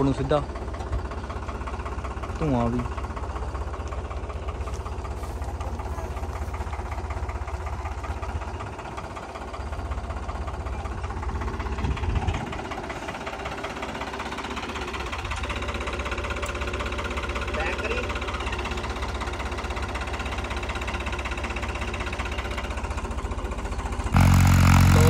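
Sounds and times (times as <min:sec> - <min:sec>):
diesel tractor engine idling: 0:00.0 - 0:25.0.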